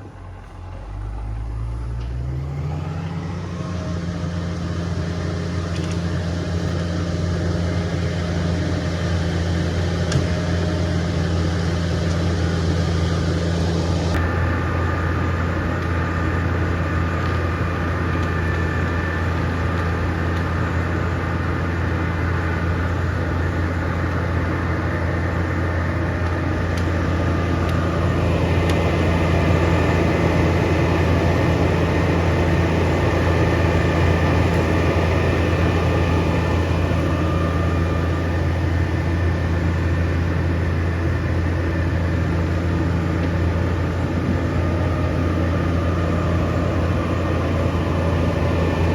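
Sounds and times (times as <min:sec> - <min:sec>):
bulldozer diesel engine droning: 0:00.0 - 0:48.9.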